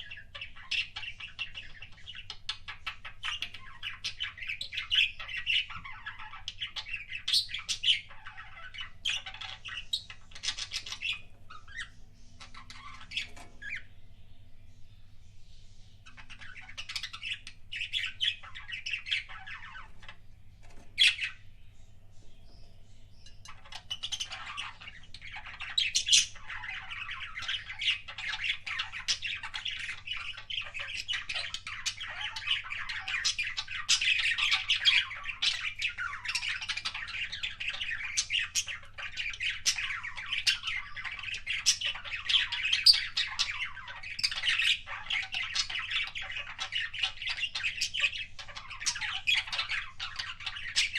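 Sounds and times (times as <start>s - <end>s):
budgerigars chattering and warbling: 0.0s - 14.0s, 15.8s - 50.9s.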